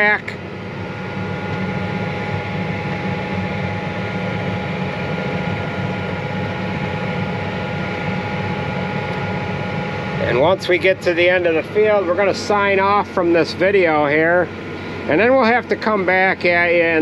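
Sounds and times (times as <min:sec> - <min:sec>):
thin whine: 0:00.0 - 0:17.0
tractor diesel engine running: 0:00.0 - 0:17.0.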